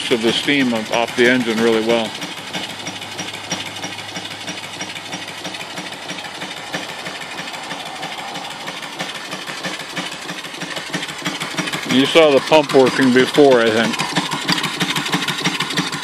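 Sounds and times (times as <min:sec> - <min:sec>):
steam engine exhaust beat: 0:00.0 - 0:16.0
steam hissing: 0:00.0 - 0:16.0.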